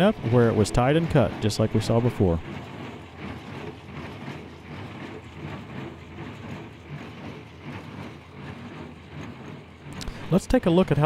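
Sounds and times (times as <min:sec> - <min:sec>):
baler machinery running: 0:00.0 - 0:11.0
tractor diesel engine under load: 0:00.0 - 0:11.0.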